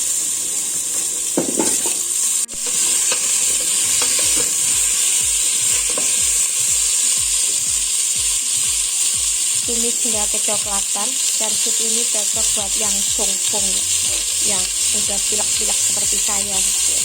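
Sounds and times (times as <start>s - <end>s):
stirring strokes in a wok: 0.0s - 17.0s
vegetables sizzling in hot oil: 0.0s - 17.0s.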